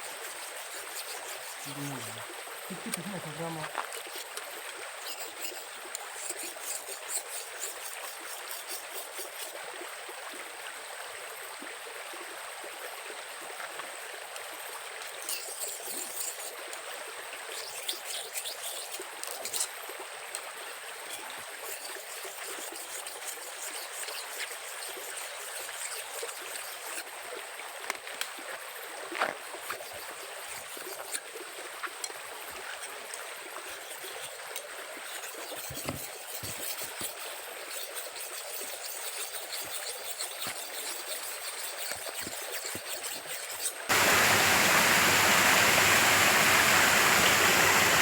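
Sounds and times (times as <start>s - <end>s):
stream water trickling: 0.0s - 48.0s.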